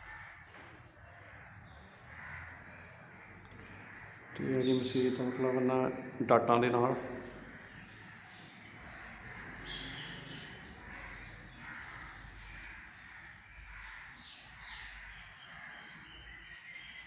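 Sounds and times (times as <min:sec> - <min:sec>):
harsh bird calls: 0:00.0 - 0:17.0.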